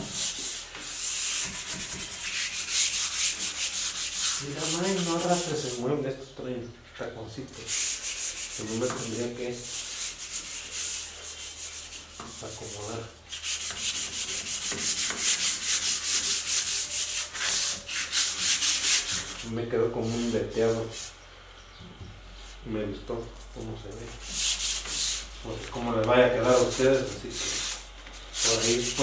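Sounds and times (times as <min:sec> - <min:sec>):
sandpaper rubbing on wood: 0:00.0 - 0:05.9, 0:07.6 - 0:21.1, 0:24.2 - 0:25.3, 0:26.3 - 0:29.0.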